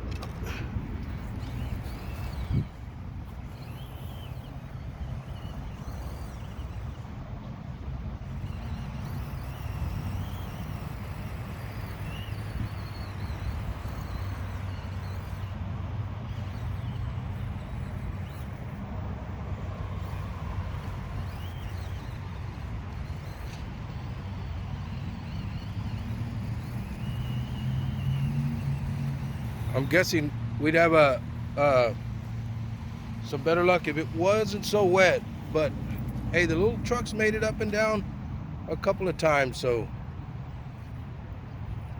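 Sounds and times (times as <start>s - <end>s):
faint high whines: 0.0s - 41.9s
vehicle engine rumbling: 0.0s - 41.9s.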